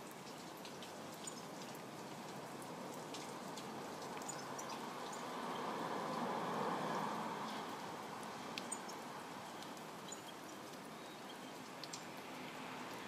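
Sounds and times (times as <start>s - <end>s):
raindrops ticking on surfaces: 0.0s - 13.0s
steady rain falling: 0.0s - 13.0s.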